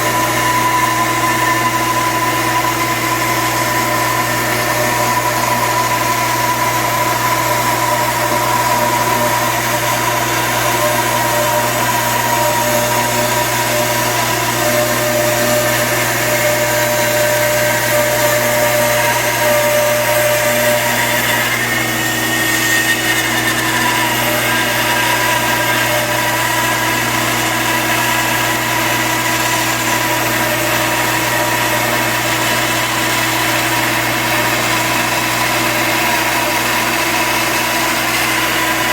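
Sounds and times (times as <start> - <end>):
bandsaw cutting a board: 0.0 - 38.9.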